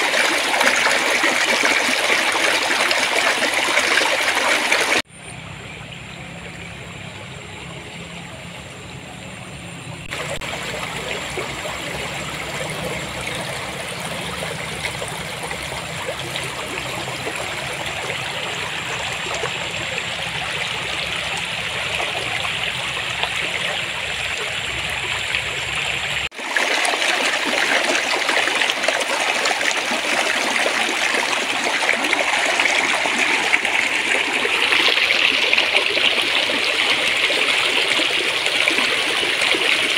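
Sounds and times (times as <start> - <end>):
water babbling over stones: 0.0 - 5.1, 10.0 - 39.9.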